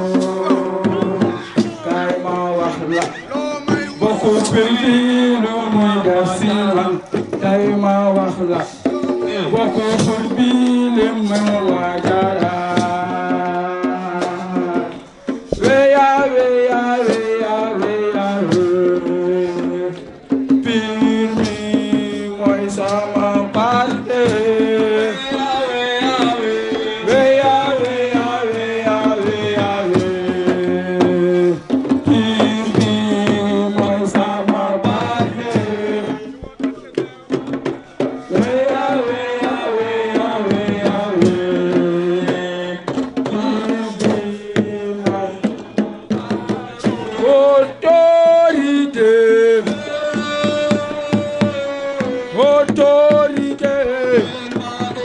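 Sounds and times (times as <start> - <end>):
drums beating: 0.0 - 55.0.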